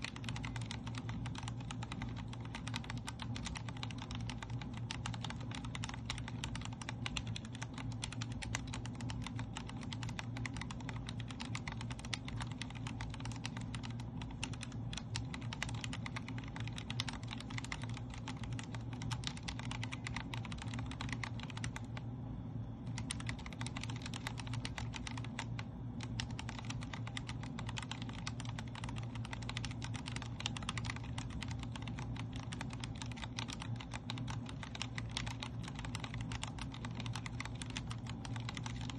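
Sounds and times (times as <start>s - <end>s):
fast mechanical keyboard typing: 0.0s - 22.1s, 22.8s - 38.9s.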